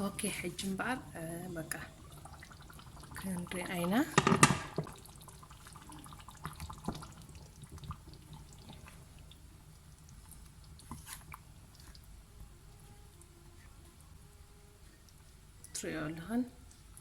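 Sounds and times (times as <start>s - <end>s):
low steady hum: 0.0s - 17.0s
water drips: 0.6s - 14.1s, 14.8s - 17.0s.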